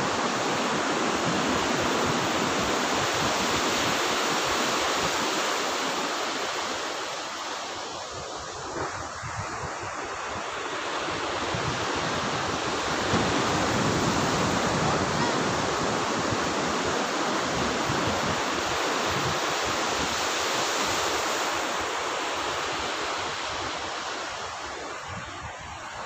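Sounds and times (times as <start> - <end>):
waves breaking on a beach: 0.0 - 26.0.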